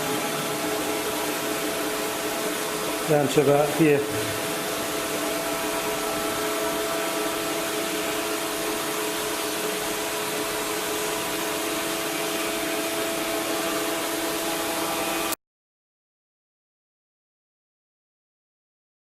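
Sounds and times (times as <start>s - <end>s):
motor-driven machine drone: 0.0s - 15.4s.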